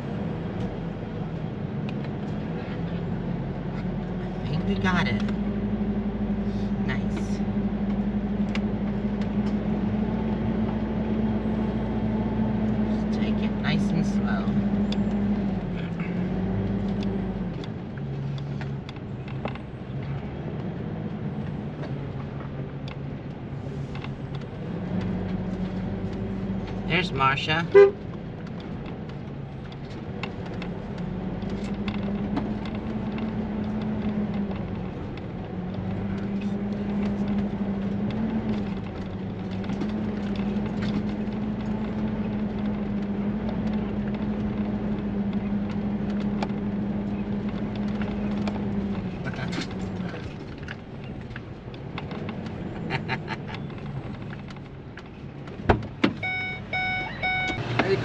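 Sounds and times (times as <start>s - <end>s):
motorhome engine running: 0.0s - 58.0s.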